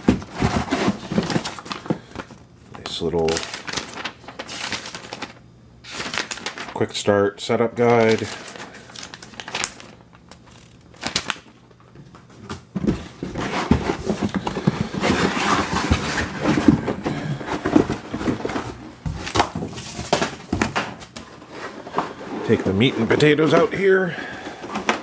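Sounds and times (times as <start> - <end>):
cardboard and packing rustling: 0.0 - 6.9, 7.8 - 25.0.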